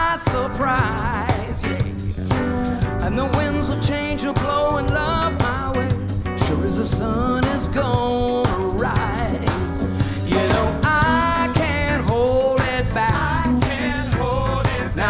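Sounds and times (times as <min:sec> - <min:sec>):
song with singing over a beat: 0:00.0 - 0:15.0.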